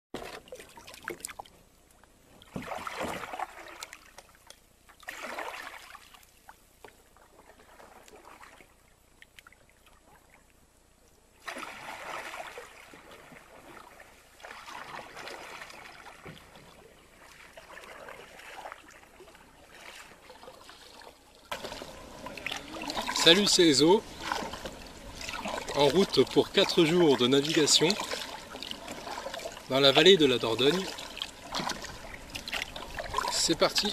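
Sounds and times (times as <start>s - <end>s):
paddle strokes splashing water: 0.2s - 10.5s, 11.3s - 33.9s.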